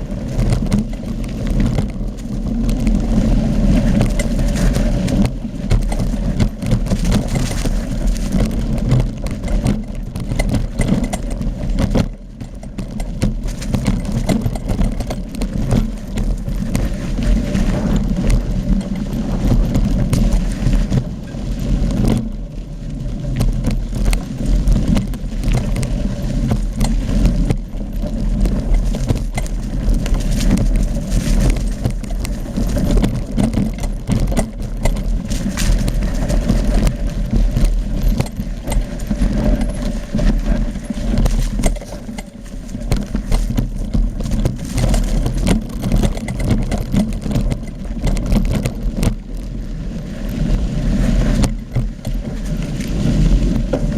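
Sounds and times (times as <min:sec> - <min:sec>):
deep rumble: 0:00.0 - 0:53.9
mountain bike rattling: 0:00.0 - 0:53.9
small knocks and clicks: 0:03.8 - 0:21.1, 0:23.3 - 0:49.5.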